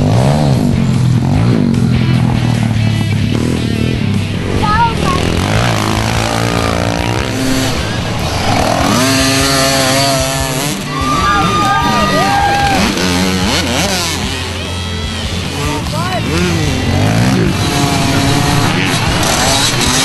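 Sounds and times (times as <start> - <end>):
background music: 0.0 - 20.0
dirt bike engines revving: 0.0 - 20.0.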